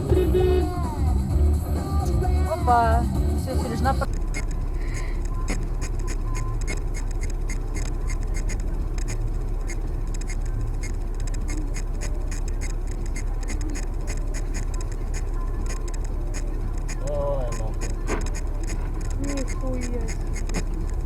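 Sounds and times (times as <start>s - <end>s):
car engine and road noise: 0.0s - 21.0s
sharp light ticks: 4.0s - 21.0s.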